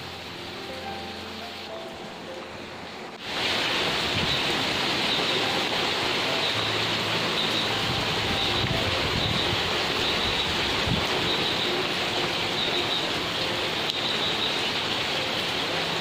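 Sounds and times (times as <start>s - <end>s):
rain falling on foliage: 0.0s - 16.0s.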